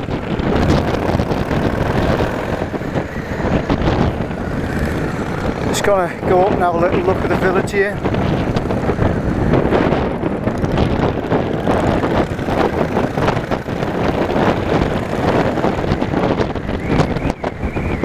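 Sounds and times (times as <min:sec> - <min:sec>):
motorcycle engine: 0:00.0 - 0:18.0
wind buffeting microphone: 0:00.0 - 0:18.0.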